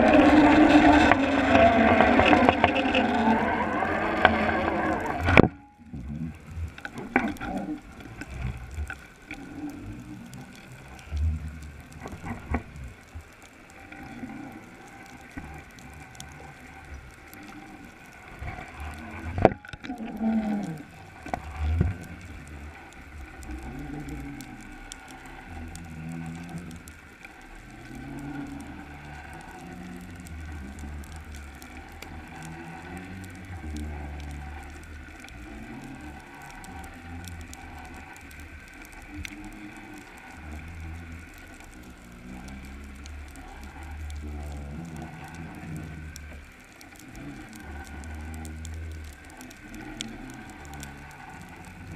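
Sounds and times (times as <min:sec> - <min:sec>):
low underwater rumbling: 0:00.0 - 0:51.9
wavering moans: 0:00.0 - 0:51.9.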